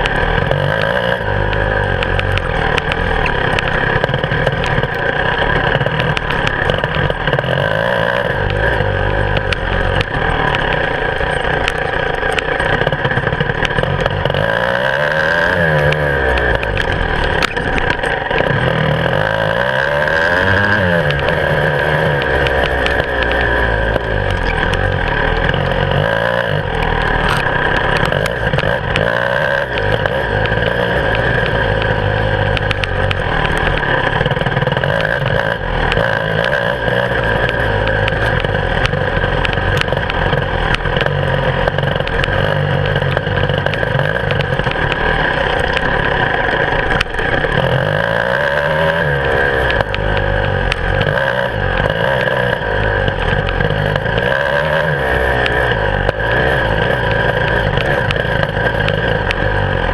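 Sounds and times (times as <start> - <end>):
bike knocks and rattles: 0.0 - 59.9
two-stroke motorcycle engine revving: 0.0 - 59.9.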